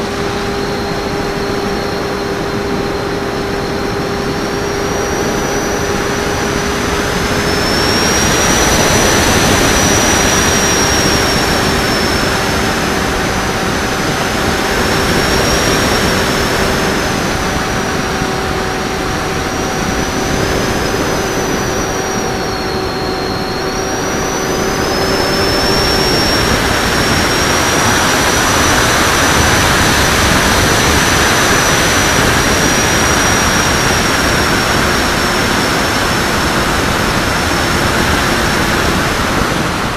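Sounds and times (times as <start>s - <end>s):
electric motor whine: 0.0s - 39.9s
wind rush: 0.0s - 39.9s.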